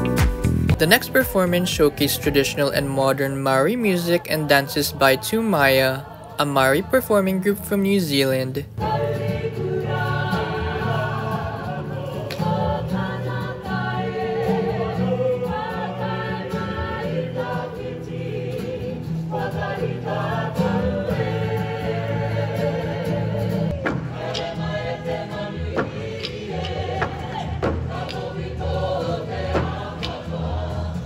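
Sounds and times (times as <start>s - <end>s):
guitar accompaniment: 0.0s - 31.0s
group singing in harmony: 1.4s - 31.0s.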